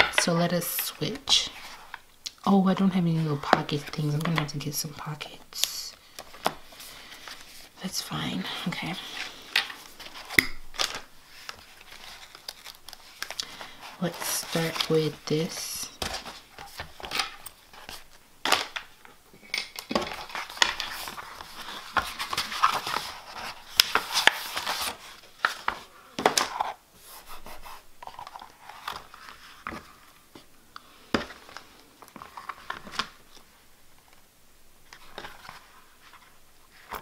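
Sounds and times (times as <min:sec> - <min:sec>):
notebook covers rustling and crinkling: 0:00.0 - 0:37.0.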